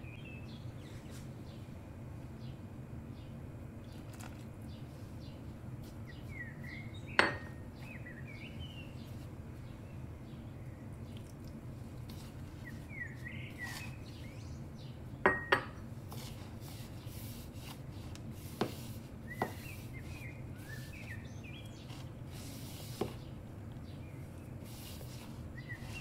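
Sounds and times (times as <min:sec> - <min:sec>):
birds chirping: 0:00.0 - 0:15.9, 0:19.0 - 0:26.0.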